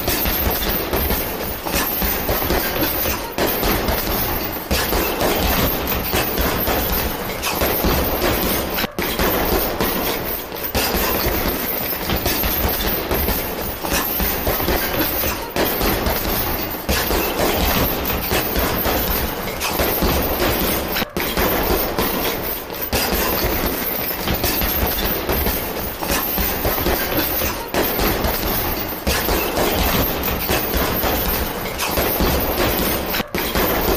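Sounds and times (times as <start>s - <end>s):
gloved punches on heavy bag: 0.0s - 33.9s.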